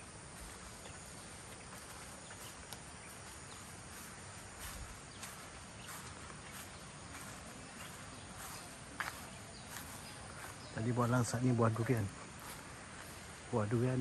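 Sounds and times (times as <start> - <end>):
footsteps on grass: 0.0 - 14.0
outdoor background hiss: 0.0 - 14.0.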